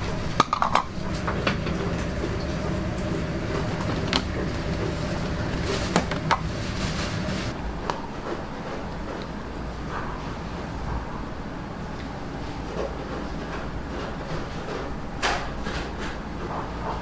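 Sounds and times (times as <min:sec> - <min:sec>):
restaurant background rumble: 0:00.0 - 0:17.0.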